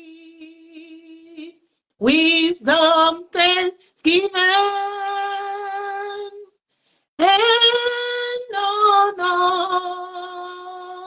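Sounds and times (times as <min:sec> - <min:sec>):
woman singing unaccompanied chant: 0:00.0 - 0:06.5, 0:07.2 - 0:11.0.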